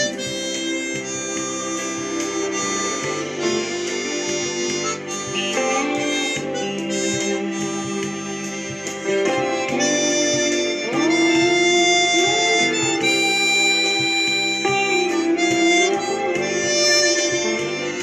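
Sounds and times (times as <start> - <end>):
backing track with guitar and beat: 0.0 - 18.0
harmonica playing slow melody: 0.0 - 18.0.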